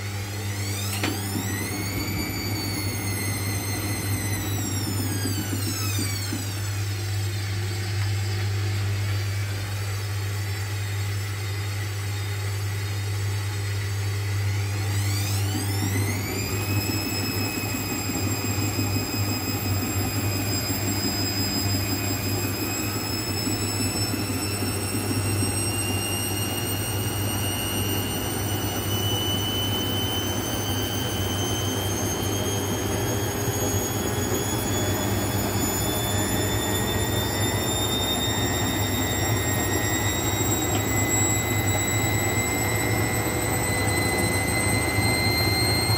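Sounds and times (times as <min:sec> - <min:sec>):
washing machine motor whining: 0:00.0 - 0:45.9.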